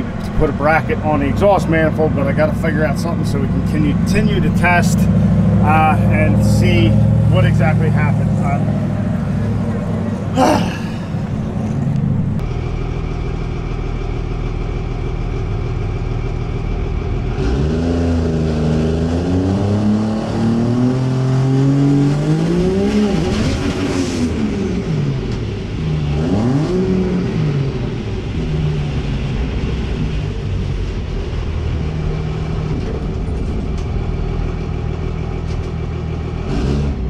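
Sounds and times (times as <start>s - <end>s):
vehicle engine revving: 0.0s - 14.1s, 16.1s - 37.0s.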